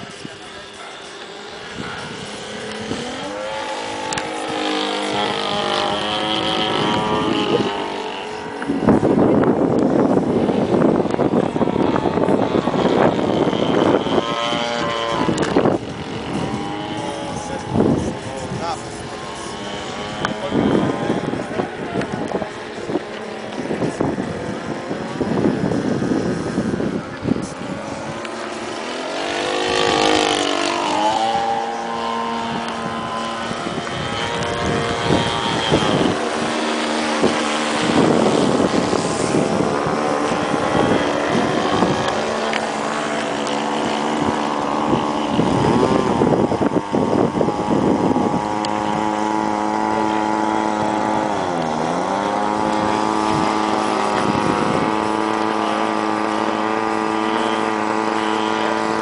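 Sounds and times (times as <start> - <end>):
model plane engine and propeller: 0.0 - 59.0.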